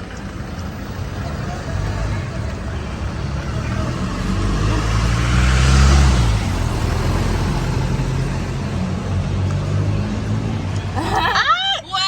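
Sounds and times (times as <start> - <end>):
traffic engines running: 0.0 - 12.0
vehicle passing close: 0.2 - 11.2.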